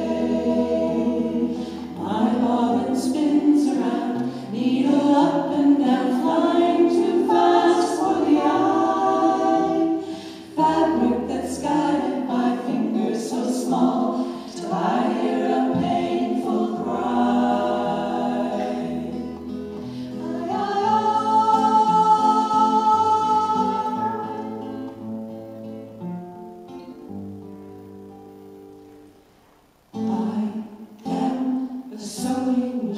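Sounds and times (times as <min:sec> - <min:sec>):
women singing in harmony: 0:00.0 - 0:25.0, 0:30.0 - 0:32.9.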